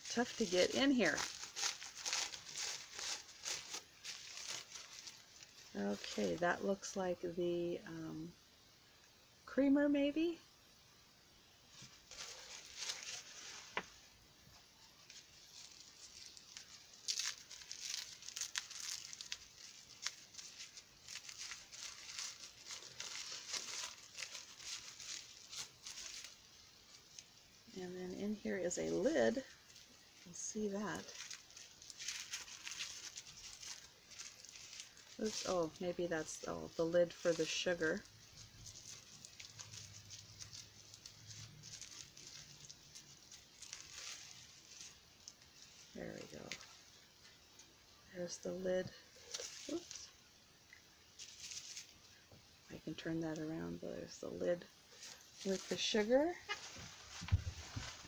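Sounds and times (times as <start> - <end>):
packing wrap crinkling and tearing: 0.0 - 7.0, 11.8 - 53.1, 54.1 - 58.0
low steady hum: 0.0 - 58.0.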